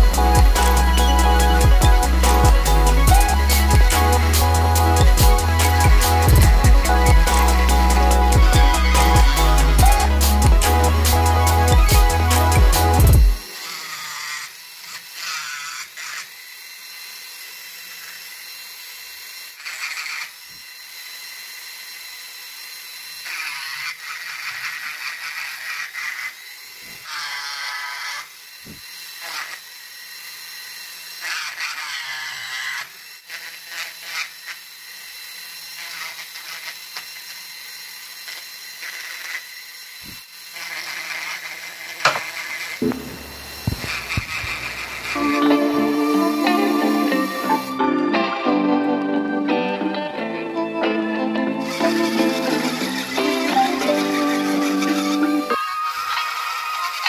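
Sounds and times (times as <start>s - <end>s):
rotary tool carving wood: 0.0s - 57.0s.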